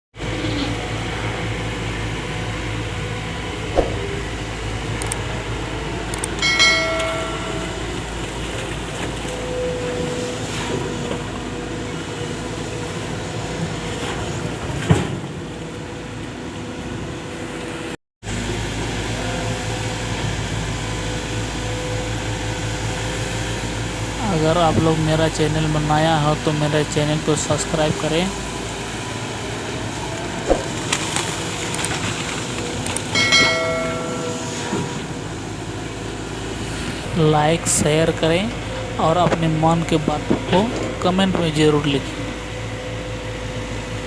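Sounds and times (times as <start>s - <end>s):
excavator diesel engine running: 0.2s - 44.0s.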